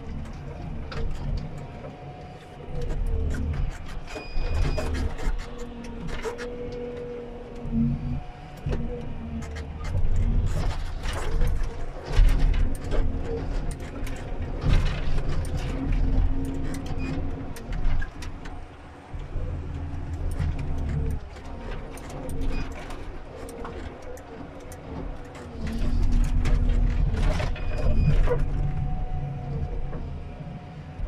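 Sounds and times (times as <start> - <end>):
harvester engine and hydraulics hum: 0.0 - 31.0.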